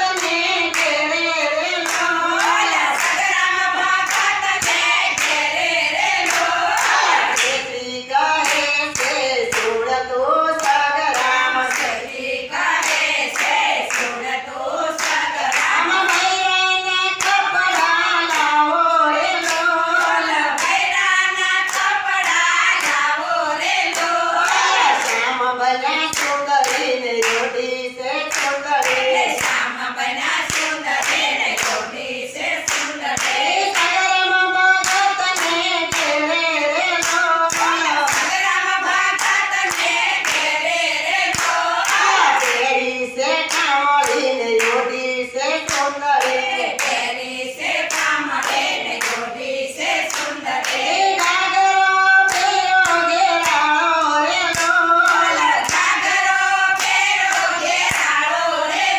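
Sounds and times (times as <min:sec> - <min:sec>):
hand-clapping on the beat: 0:00.0 - 0:58.9
woman singing into a microphone: 0:00.0 - 0:58.9
women singing together: 0:00.0 - 0:58.9.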